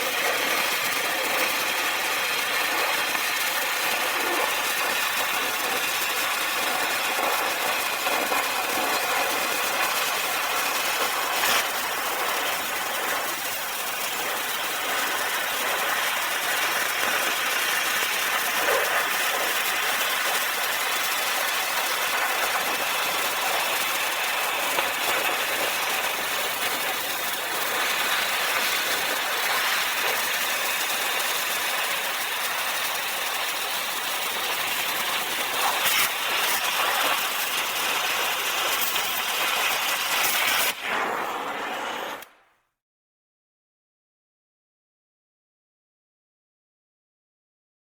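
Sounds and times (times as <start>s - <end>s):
torch flame hissing: 0.0s - 42.4s.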